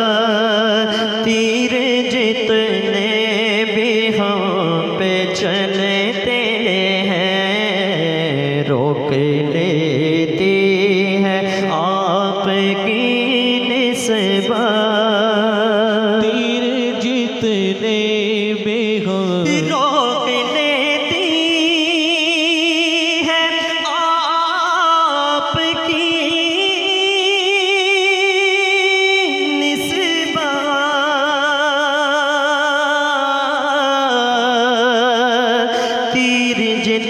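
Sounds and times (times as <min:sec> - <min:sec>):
man singing with vibrato: 0:00.0 - 0:37.0.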